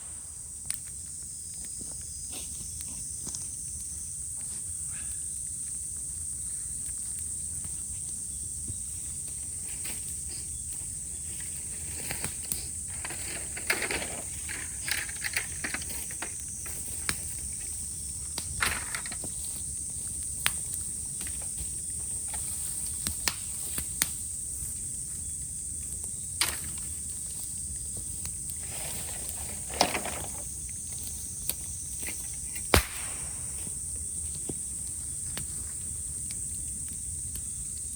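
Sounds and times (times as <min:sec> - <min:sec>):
burning bamboo crackling and popping: 0:00.0 - 0:37.9
cicadas buzzing: 0:00.0 - 0:37.9.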